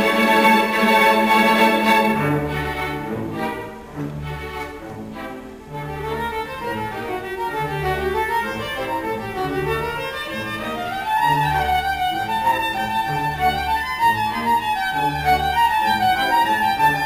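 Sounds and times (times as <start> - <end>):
solo viola melody: 0.0 - 17.0
string orchestra: 0.0 - 17.0.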